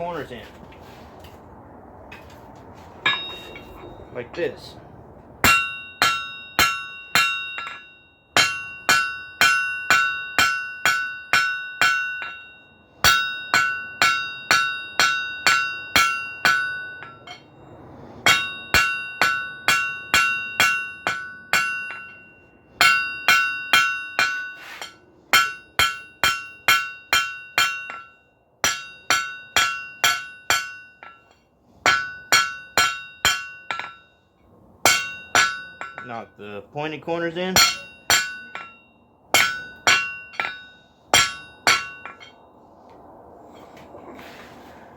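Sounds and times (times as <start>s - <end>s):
hammer striking steel on anvil: 3.0s - 3.9s, 5.4s - 17.5s, 18.2s - 34.1s, 34.8s - 42.5s.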